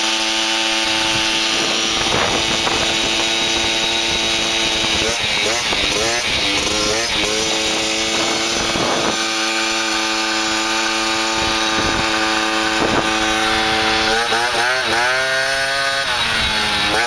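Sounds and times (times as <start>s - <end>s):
moped engine revving: 0.0s - 17.0s.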